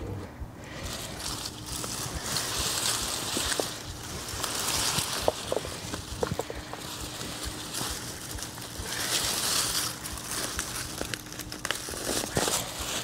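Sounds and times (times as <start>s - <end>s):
plant foliage rustling: 0.6s - 13.0s.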